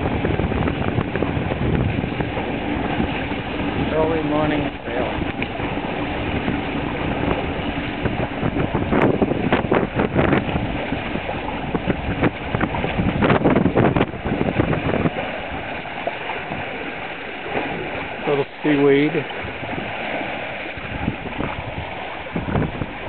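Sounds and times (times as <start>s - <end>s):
water splashing along hulls: 0.0s - 23.0s
wind buffeting microphone: 0.0s - 23.0s.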